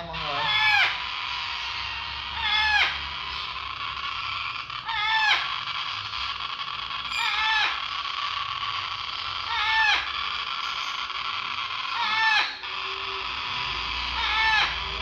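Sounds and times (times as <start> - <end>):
parrot chicks begging calls: 0.0 - 15.0.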